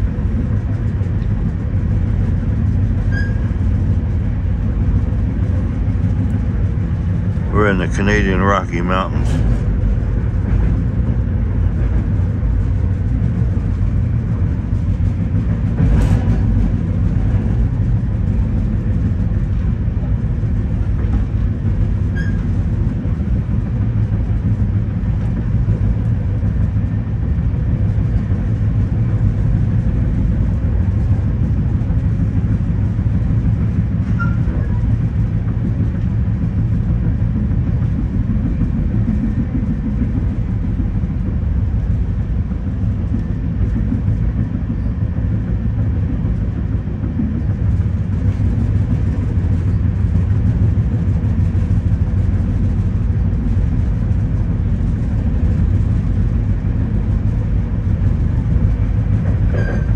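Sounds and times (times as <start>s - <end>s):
train running noise from inside: 0.0s - 59.9s.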